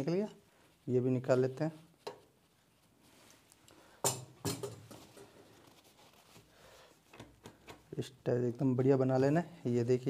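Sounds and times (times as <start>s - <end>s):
cloth rustling: 0.1s - 10.0s.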